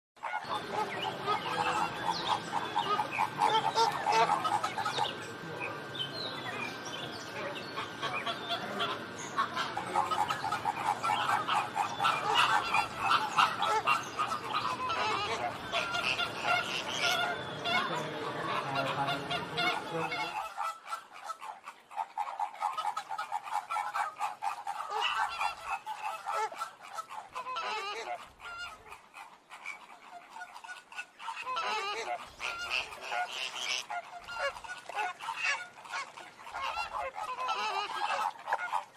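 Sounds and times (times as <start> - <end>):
flamingos calling: 0.2 - 38.9
low background noise: 0.2 - 38.9.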